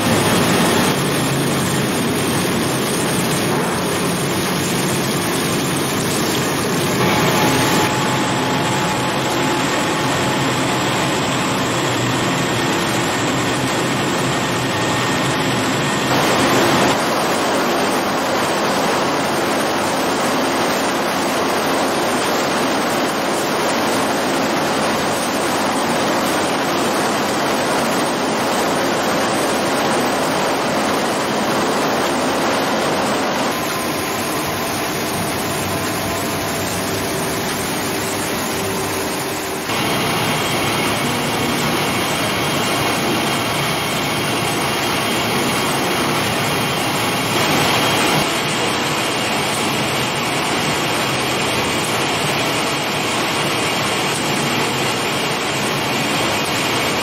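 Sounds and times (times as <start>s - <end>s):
machinery running: 0.0s - 57.0s.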